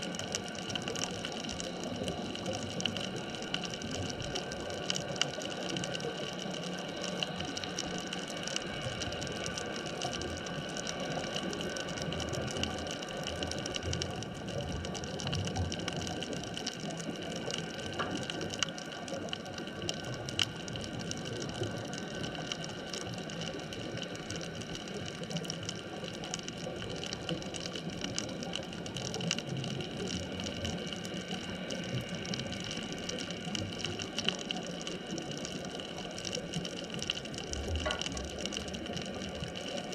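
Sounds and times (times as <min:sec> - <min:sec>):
crackle of small clicks: 0:00.0 - 0:39.9.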